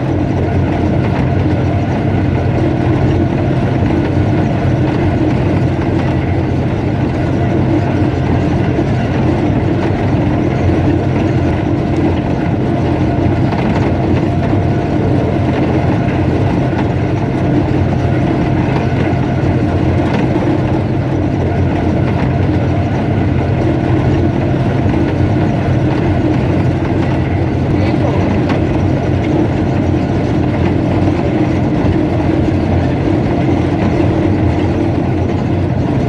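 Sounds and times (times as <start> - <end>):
locomotive engine droning: 0.0 - 36.0.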